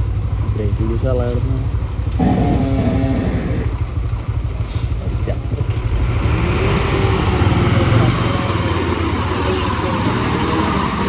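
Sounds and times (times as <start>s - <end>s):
lorry engine rumbling: 0.0s - 11.0s.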